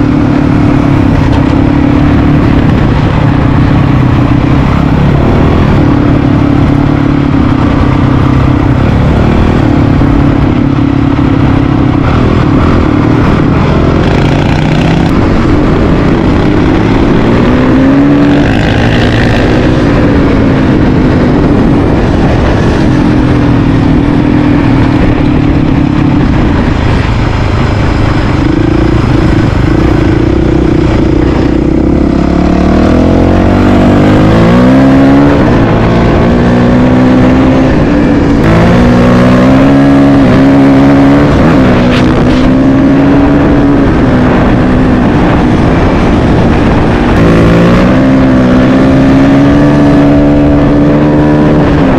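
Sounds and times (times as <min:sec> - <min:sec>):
motorcycle engine accelerating: 0:00.0 - 0:51.9
wind noise: 0:00.0 - 0:51.9.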